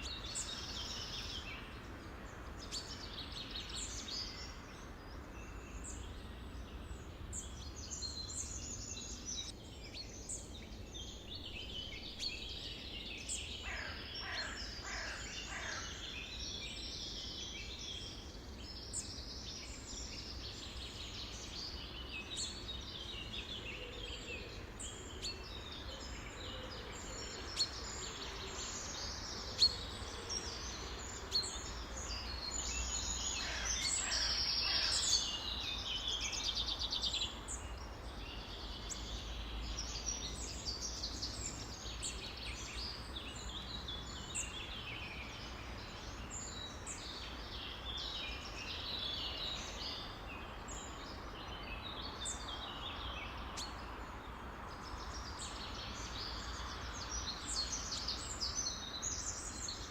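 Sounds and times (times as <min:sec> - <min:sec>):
birds chirping in chorus: 0:00.0 - 0:59.9.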